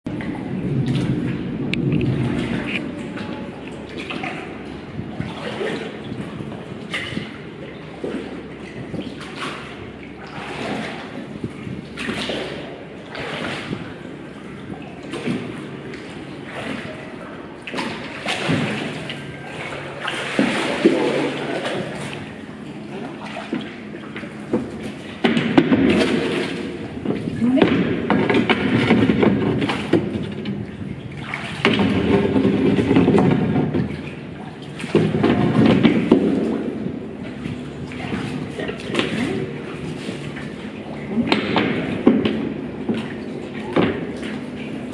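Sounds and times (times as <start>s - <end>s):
oar blades splashing water: 0.1s - 44.9s.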